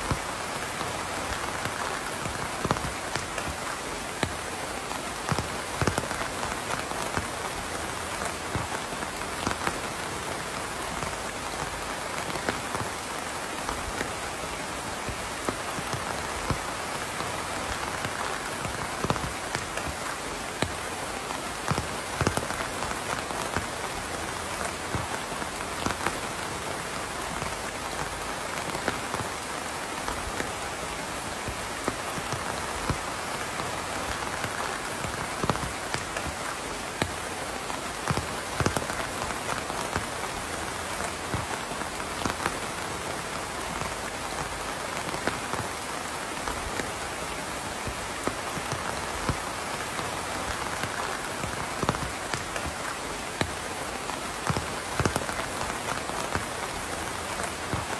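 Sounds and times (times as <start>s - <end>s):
raindrops ticking on a surface: 0.0s - 57.9s
steady rain falling: 0.0s - 57.9s.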